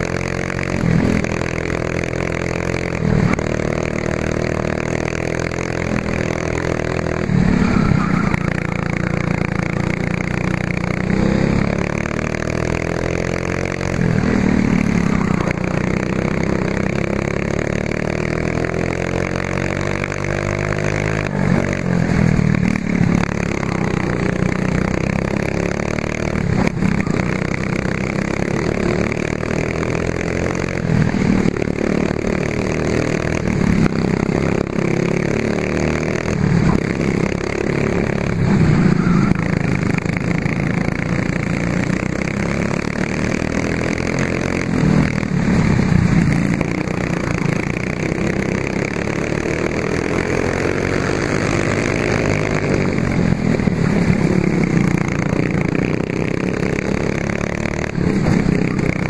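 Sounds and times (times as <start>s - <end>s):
racing kart engine at full throttle: 0.0s - 59.0s
wind and track noise: 0.0s - 59.0s.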